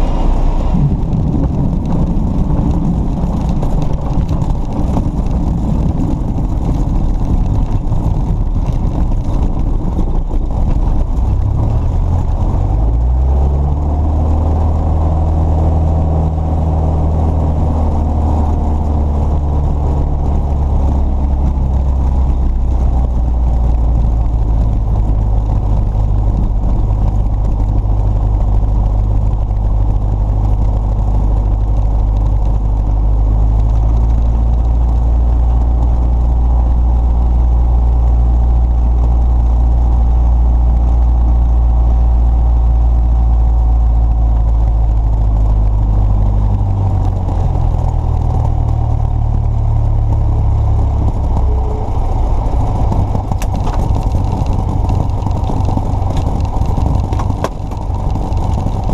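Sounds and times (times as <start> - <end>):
vehicle engine rumbling: 0.0 - 58.9.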